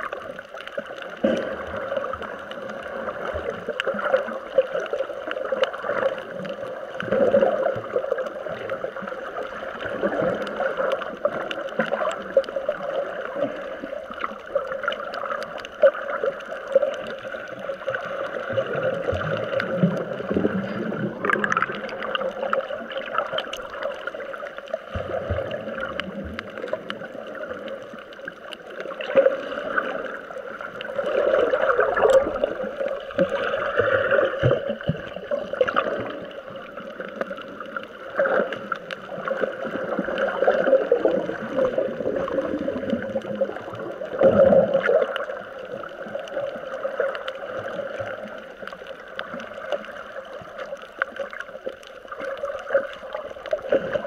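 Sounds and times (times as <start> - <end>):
bubbling and splashing: 0.0 - 54.0
muffled underwater water gurgling: 0.0 - 54.0.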